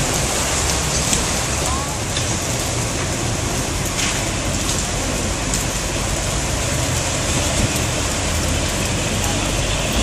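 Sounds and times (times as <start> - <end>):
heavy rain on flooded street: 0.0 - 10.0.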